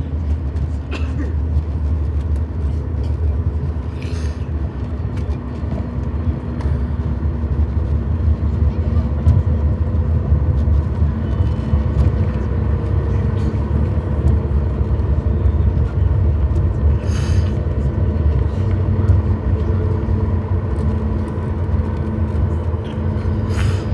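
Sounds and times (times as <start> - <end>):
constant hum: 0.0 - 23.9
vehicle running rumble: 0.0 - 23.9.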